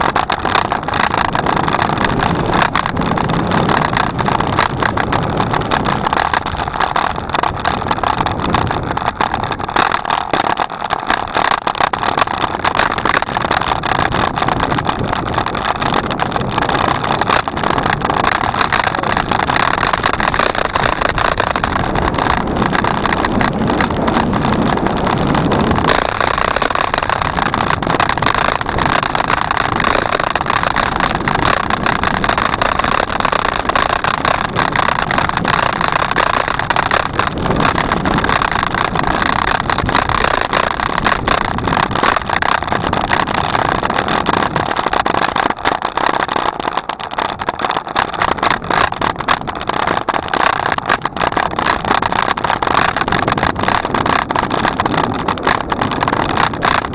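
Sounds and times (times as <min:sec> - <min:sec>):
microphone crackles: 0:00.0 - 0:56.9
wind and road noise: 0:00.0 - 0:56.9.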